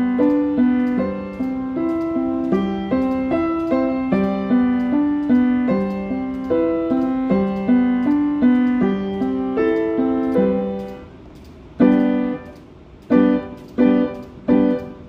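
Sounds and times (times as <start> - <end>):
piano single notes: 0.0 - 11.2, 11.8 - 15.0.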